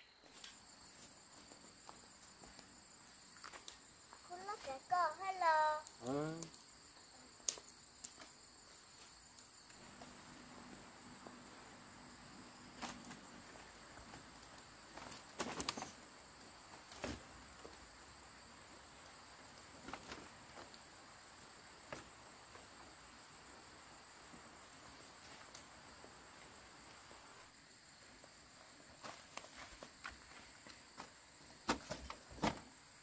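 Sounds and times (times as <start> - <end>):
high trill of insects: 0.0 - 33.0.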